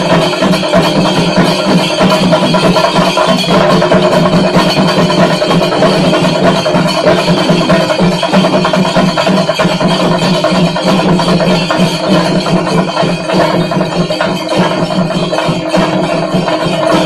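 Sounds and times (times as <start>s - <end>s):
drums beaten fast with sticks: 0.0s - 17.0s.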